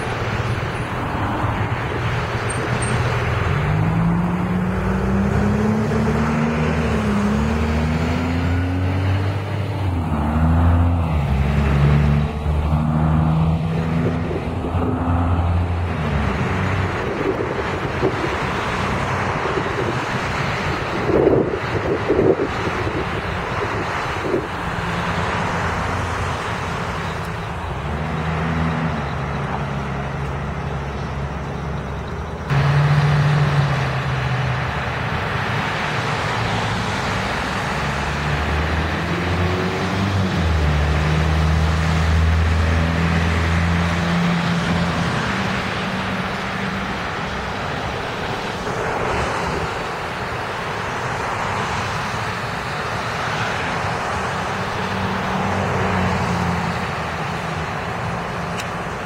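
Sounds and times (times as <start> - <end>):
bus engine hum: 0.0 - 59.0
street traffic rumble: 0.0 - 59.0.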